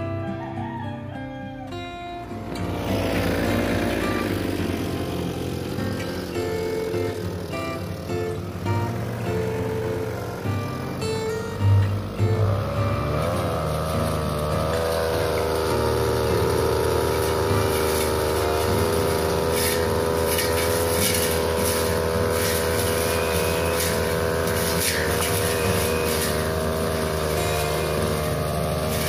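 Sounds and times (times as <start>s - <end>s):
brush cutter engine running: 2.2s - 29.0s
blade crackling through hedge: 2.3s - 29.0s.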